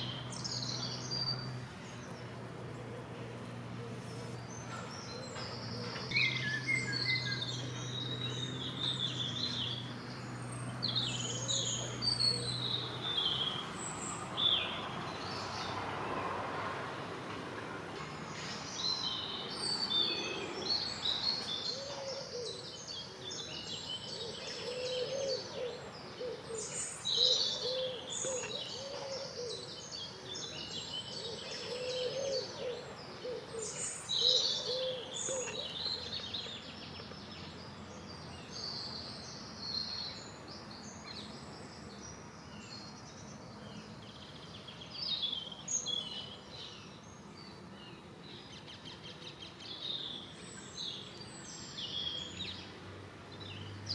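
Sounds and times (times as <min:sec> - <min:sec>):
songbirds singing: 0:00.0 - 0:53.9.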